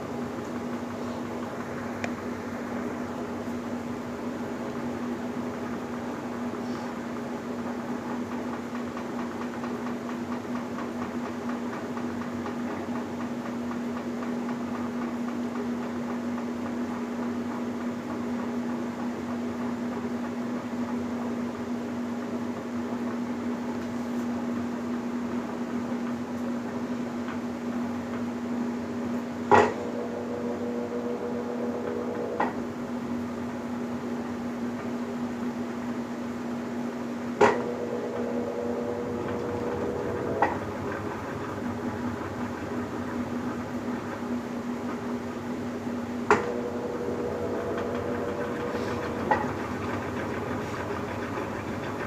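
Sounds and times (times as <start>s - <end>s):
washing machine humming: 0.0s - 52.0s.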